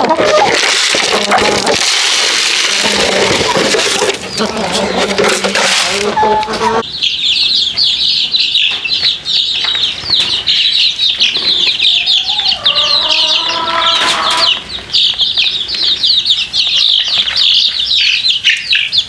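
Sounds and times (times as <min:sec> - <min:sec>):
chicken clucking: 0:00.0 - 0:19.0
chicks peeping: 0:00.0 - 0:19.0.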